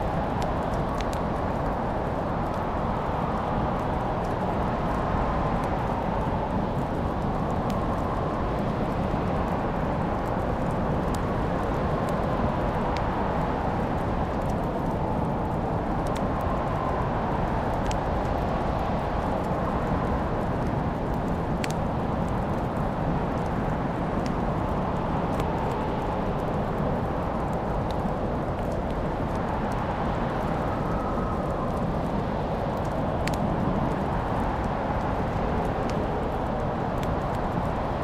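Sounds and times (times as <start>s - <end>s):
steady rushing noise: 0.0s - 38.0s
wood fire crackling: 0.0s - 38.0s.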